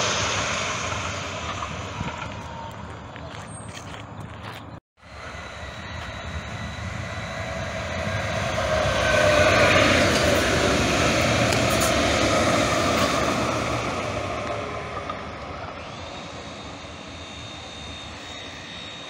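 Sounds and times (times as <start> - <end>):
light-rail train passing: 0.0 - 19.0.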